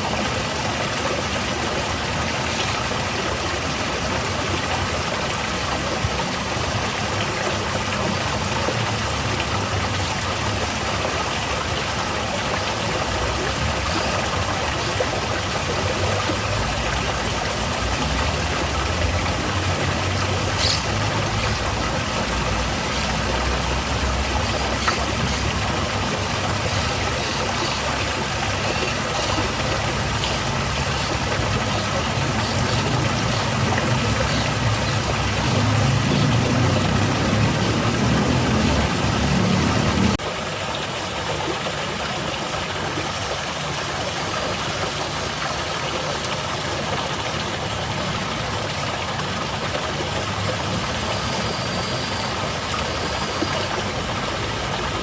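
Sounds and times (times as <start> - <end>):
water falling and splashing: 0.0 - 55.0.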